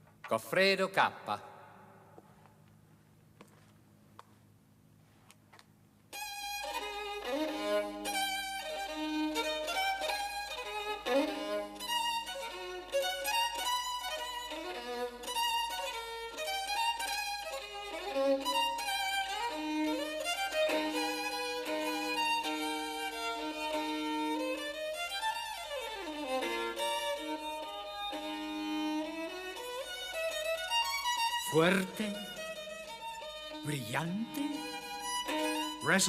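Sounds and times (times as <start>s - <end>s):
solo violin melody: 6.1s - 36.0s.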